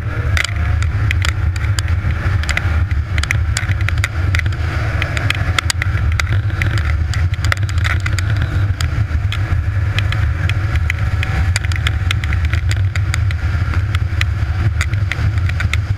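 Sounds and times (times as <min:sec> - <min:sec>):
snowmobile engine running: 0:00.0 - 0:15.9
short sharp clicks and rattles: 0:00.3 - 0:15.9.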